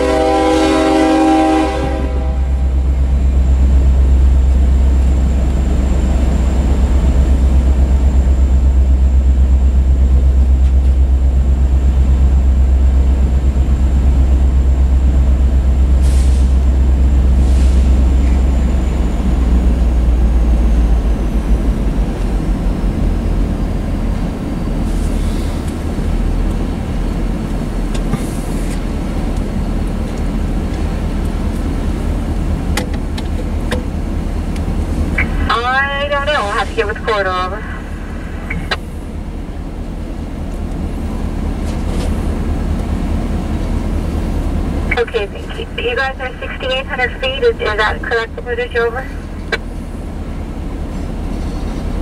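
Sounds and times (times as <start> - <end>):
steel wheels rumbling on rail: 0.0 - 35.6, 36.4 - 45.0, 49.1 - 52.0.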